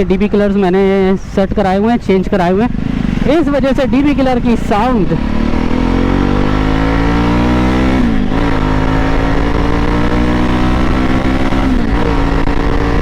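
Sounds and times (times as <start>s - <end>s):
motorcycle engine accelerating: 1.5s - 13.0s.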